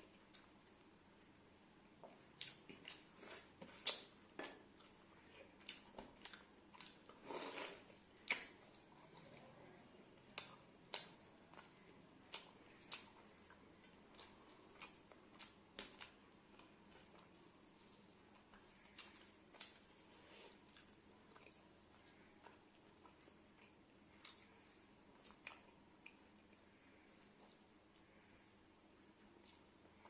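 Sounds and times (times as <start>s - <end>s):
person chewing: 0.0s - 0.8s, 2.0s - 30.0s.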